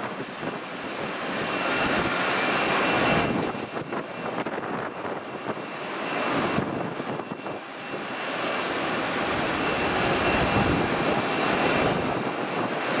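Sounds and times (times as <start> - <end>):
jet engines rushing with whine: 0.0 - 13.0.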